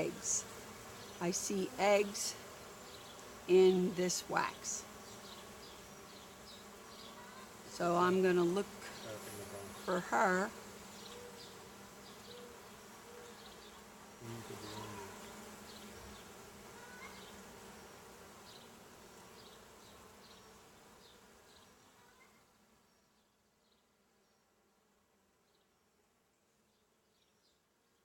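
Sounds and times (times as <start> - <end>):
honey bees buzzing: 0.0 - 23.0.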